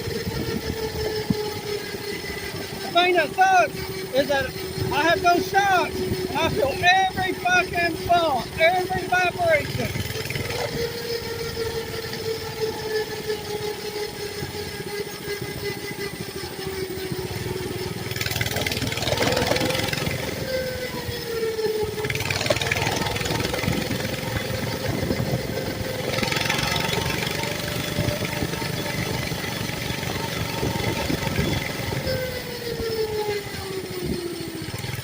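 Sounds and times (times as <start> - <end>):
small motorbike engine running: 0.0 - 35.0.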